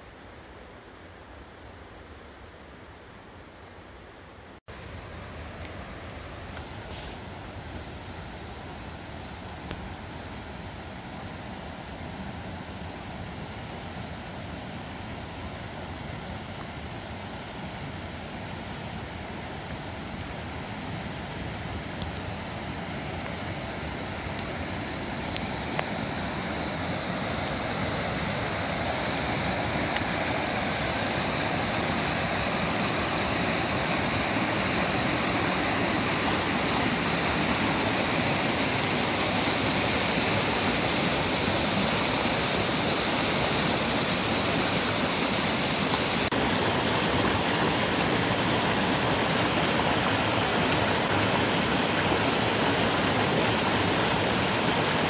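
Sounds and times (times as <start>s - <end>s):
creek water rushing: 4.6s - 55.0s.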